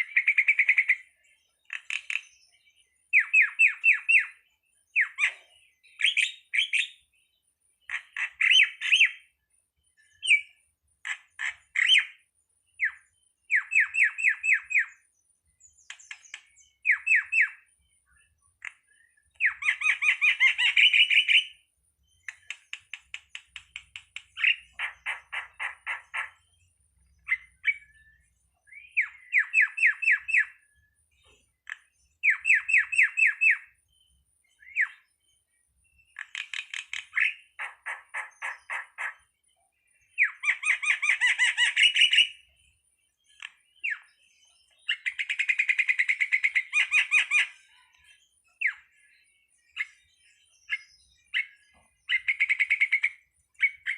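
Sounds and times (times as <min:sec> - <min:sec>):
starling chirping: 0:00.0 - 0:53.9.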